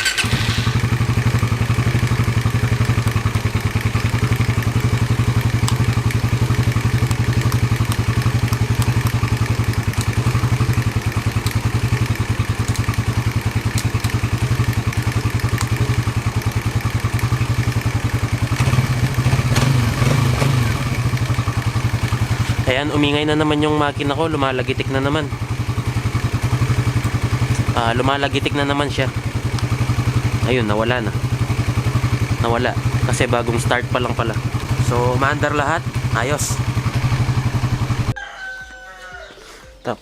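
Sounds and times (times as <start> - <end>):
engine ticking: 0.0 - 38.2
motorcycle engine idling: 0.0 - 38.2.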